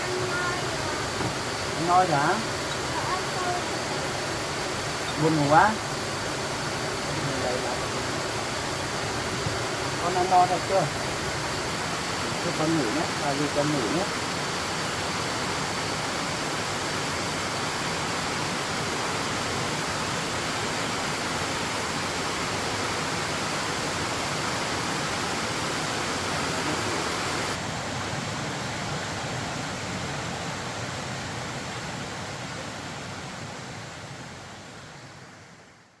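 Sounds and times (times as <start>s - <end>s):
rushing water: 0.0s - 35.6s.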